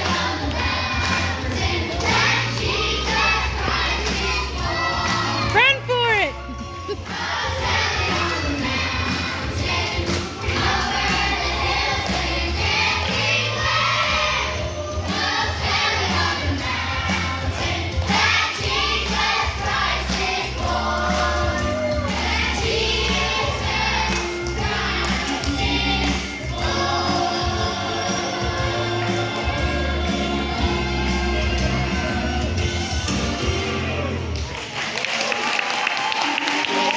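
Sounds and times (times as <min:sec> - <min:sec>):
choir singing: 0:00.0 - 0:05.5, 0:06.6 - 0:34.2.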